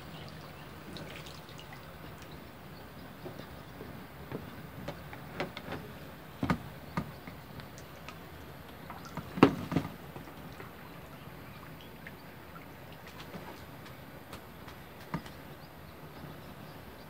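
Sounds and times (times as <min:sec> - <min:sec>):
water splashing and dripping: 0:00.0 - 0:05.5, 0:07.2 - 0:15.4.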